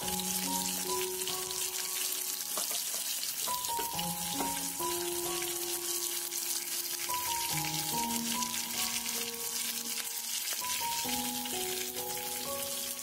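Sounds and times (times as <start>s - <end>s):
background music: 0.0s - 13.0s
food sizzling in oil: 0.0s - 13.0s.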